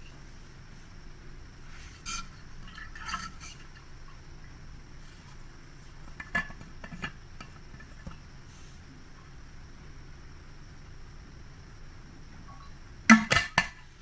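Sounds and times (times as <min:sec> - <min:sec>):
faint room noise: 0:00.0 - 0:14.0.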